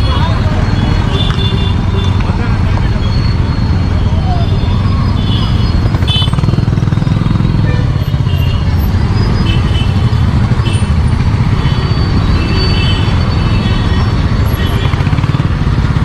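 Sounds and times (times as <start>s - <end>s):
motorcycle engine cruising: 0.0s - 16.0s
road noise: 0.0s - 16.0s.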